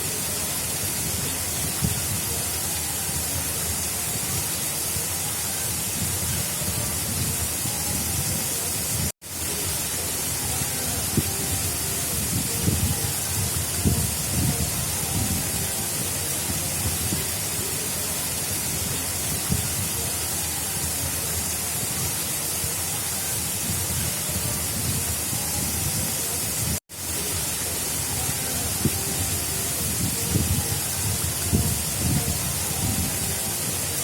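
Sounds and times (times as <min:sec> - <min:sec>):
water gurgles and splashes: 0:00.0 - 0:34.0.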